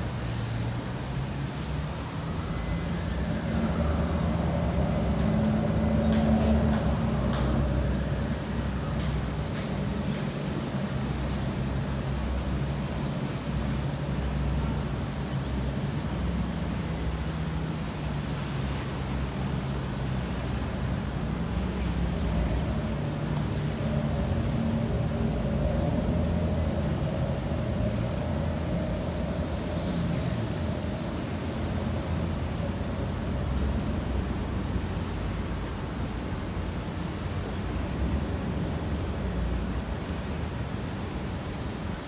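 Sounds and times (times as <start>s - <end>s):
diesel engines rumbling: 0.0s - 42.0s
harbourside background noise: 0.0s - 42.0s.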